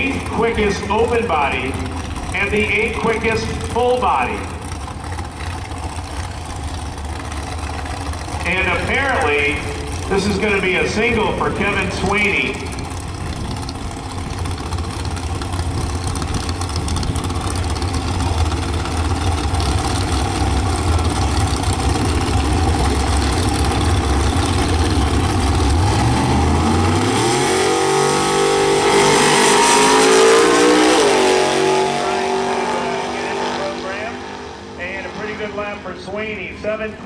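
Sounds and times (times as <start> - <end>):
drag racing car engine: 0.0 - 37.0.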